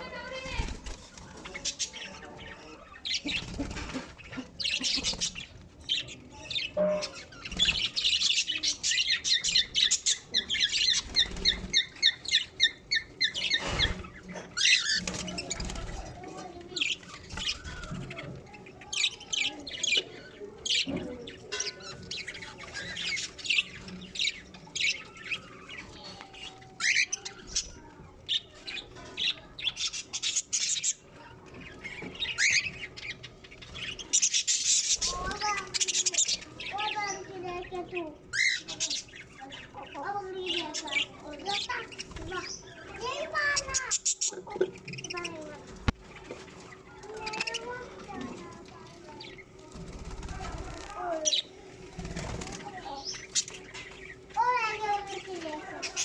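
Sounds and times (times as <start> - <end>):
budgerigars chirping and chattering: 0.0 - 56.0.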